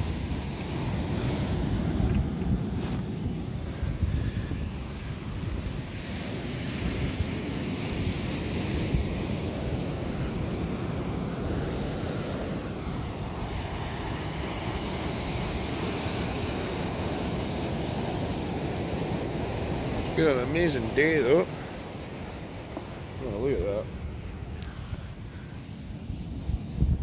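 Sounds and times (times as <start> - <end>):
waves breaking on boulders: 0.0 - 25.4
wind buffeting microphone: 0.0 - 27.0.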